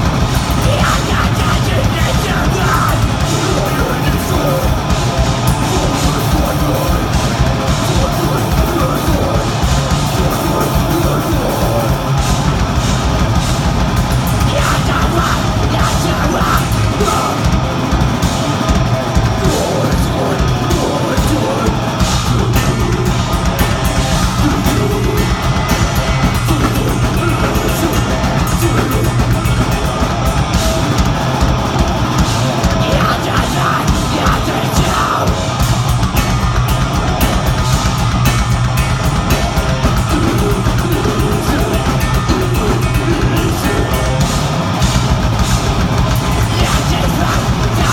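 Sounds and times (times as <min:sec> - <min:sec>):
distorted guitars: 0:00.0 - 0:47.9
fast pounding drums: 0:00.0 - 0:47.9
yelled vocals: 0:00.0 - 0:47.9.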